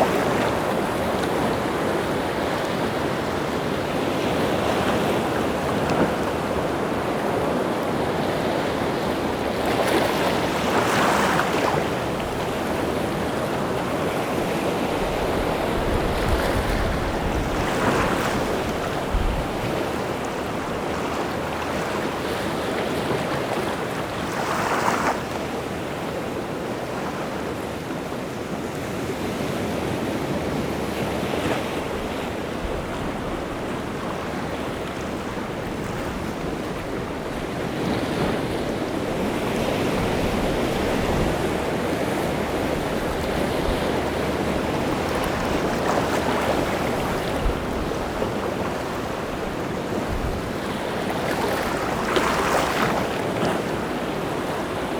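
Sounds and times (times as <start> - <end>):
waves breaking: 0.0 - 54.9.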